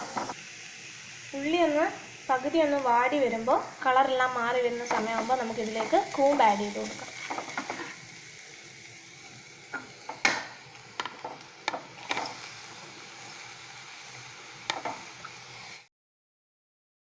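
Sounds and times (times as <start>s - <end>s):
vegetables sizzling in hot oil: 0.0s - 15.9s.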